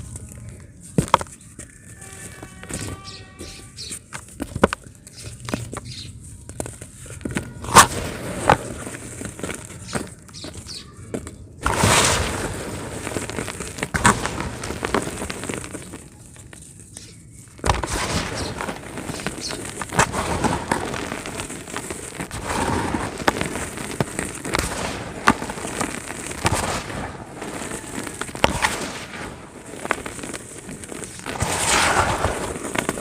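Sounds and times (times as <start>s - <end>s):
dry cement crumbling: 0.0s - 33.0s.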